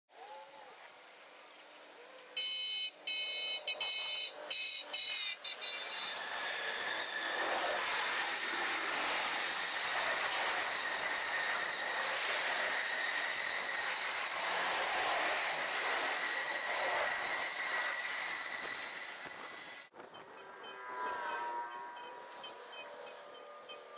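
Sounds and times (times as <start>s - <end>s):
sped-up train hiss with whine: 0.2s - 19.9s.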